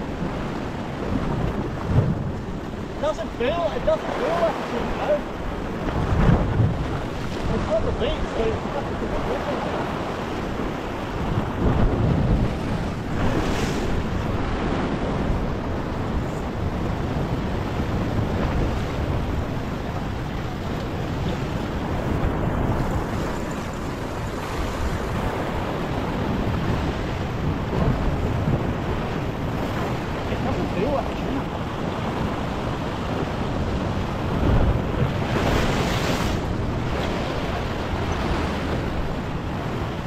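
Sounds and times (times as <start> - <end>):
waves breaking against rocks: 0.0 - 40.0
wind buffeting microphone: 0.0 - 40.0.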